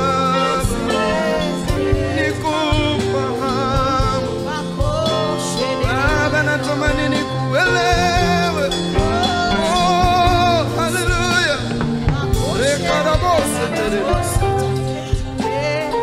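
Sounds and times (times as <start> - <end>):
band with bass and drums: 0.0 - 16.0
gospel singers: 0.0 - 16.0.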